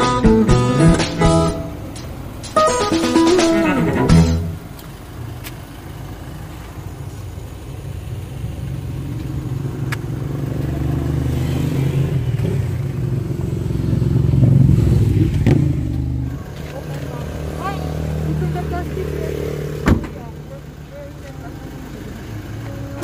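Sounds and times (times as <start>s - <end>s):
vehicle engine approaching: 0.0s - 23.0s.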